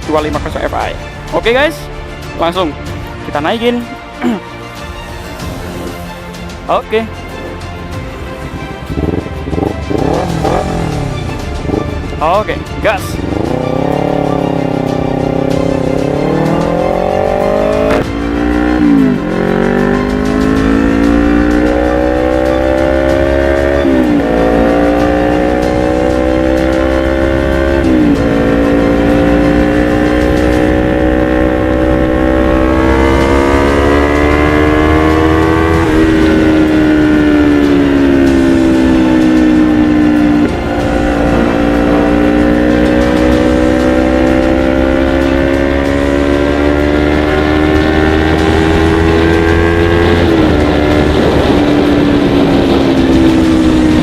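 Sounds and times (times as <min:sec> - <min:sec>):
motorcycle engine accelerating hard: 0:08.5 - 0:12.2, 0:13.1 - 0:54.0.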